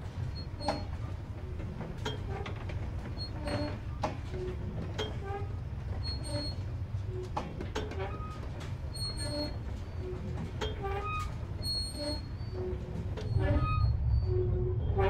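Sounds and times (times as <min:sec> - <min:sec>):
carousel low rumble: 0:00.0 - 0:15.0
squeaky creaks: 0:00.3 - 0:15.0.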